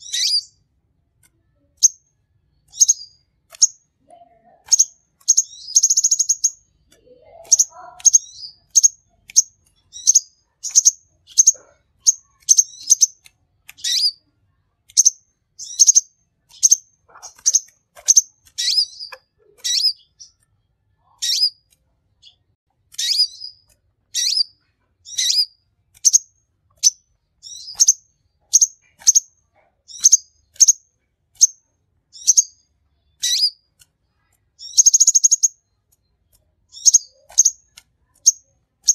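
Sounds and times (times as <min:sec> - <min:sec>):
buzzy bird trill: 0:00.0 - 0:00.6, 0:02.6 - 0:14.3, 0:14.9 - 0:20.4, 0:21.0 - 0:33.7, 0:34.6 - 0:35.8, 0:36.7 - 0:38.9
sunbird chirping: 0:00.0 - 0:00.6, 0:01.8 - 0:13.2, 0:13.8 - 0:14.2, 0:14.9 - 0:22.4, 0:23.0 - 0:33.6, 0:34.3 - 0:38.9.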